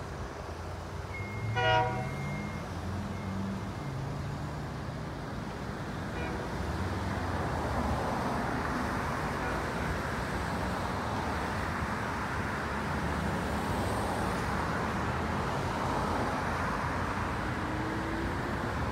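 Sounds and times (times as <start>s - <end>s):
cars passing on busy street: 0.0s - 18.9s.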